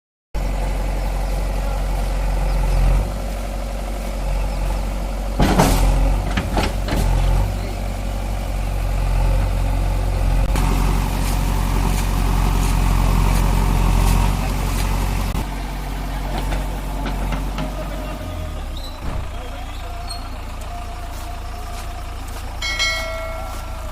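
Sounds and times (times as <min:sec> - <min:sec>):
diesel engine running: 0:00.4 - 0:23.9.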